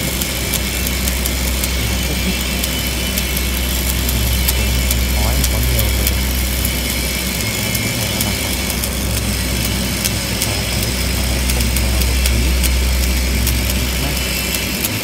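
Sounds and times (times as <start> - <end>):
steady low hum: 0.0 - 15.0
welding arc crackling: 0.0 - 15.0.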